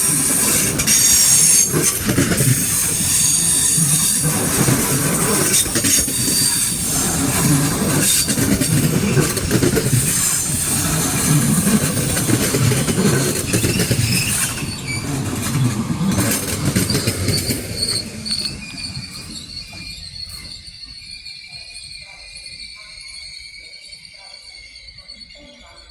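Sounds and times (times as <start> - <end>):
train clacks: 0.0 - 22.9
train low rumble: 0.0 - 25.8
train wheels squealing: 0.0 - 25.9.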